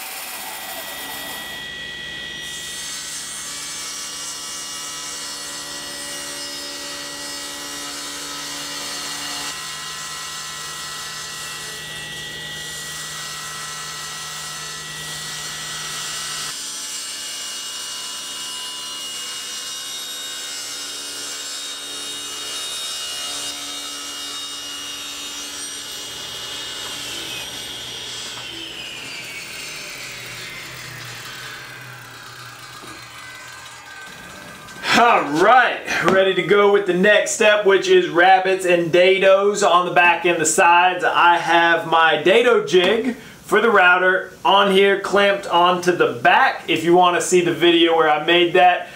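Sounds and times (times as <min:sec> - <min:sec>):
table saw cutting plywood: 0:00.0 - 0:48.9.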